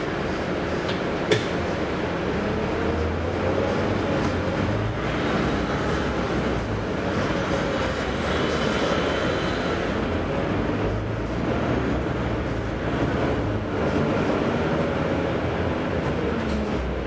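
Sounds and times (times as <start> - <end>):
bus diesel engine accelerating: 0.0 - 17.0.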